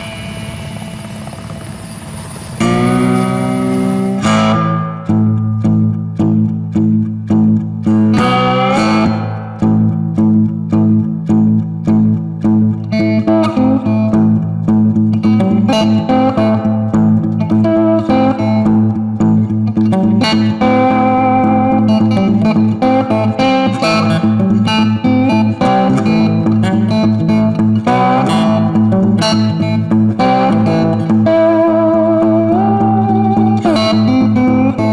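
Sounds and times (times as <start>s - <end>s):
electric guitar melody: 0.0s - 34.9s
bass line: 2.6s - 34.9s.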